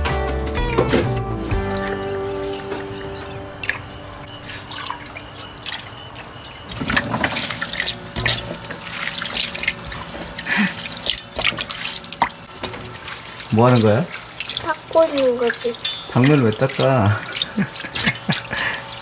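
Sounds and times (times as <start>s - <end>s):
water dripping and trickling: 0.6s - 19.0s
water splashing in a metal bowl: 0.7s - 19.0s.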